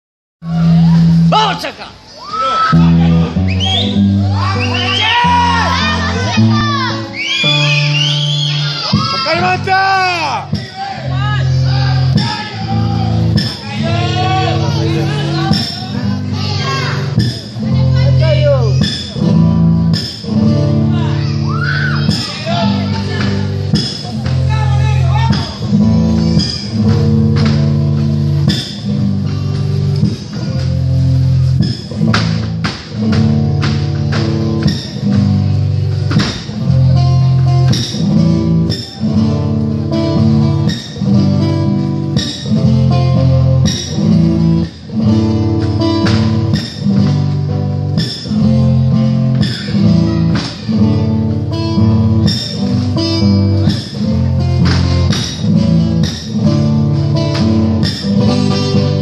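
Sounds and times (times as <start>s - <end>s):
low bass line: 0.4s - 1.4s, 2.8s - 59.0s
strummed guitar: 2.7s - 59.0s.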